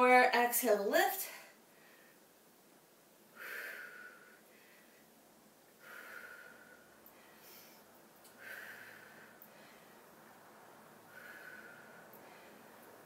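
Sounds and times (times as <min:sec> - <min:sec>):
woman breathing: 0:01.4 - 0:02.4, 0:03.3 - 0:13.0.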